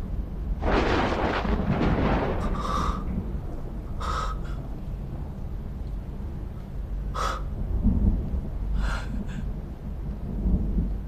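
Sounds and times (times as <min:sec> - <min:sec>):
rolling thunder rumble: 0:00.0 - 0:11.0.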